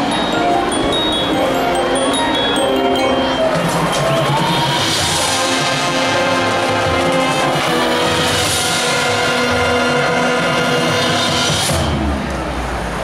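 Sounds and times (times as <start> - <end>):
marching band sustained chords: 0.0 - 13.0.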